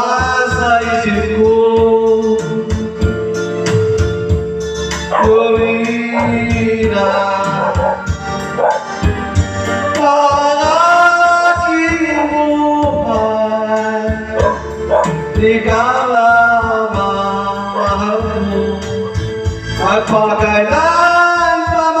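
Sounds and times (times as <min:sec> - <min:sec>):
backing track with steady beat: 0:00.0 - 0:22.0
man singing a ballad: 0:00.0 - 0:22.0.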